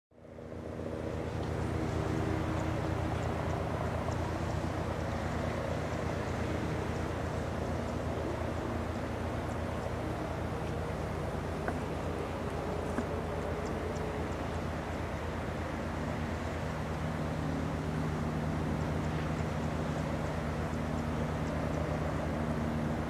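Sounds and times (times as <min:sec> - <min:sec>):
turbine whine: 0:00.2 - 0:23.0.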